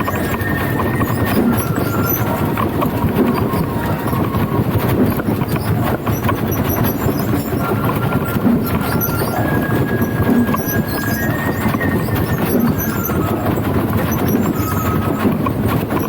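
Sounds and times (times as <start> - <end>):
thin squealing tones: 0.0 - 16.0
wooden float wheels clattering: 0.0 - 16.0.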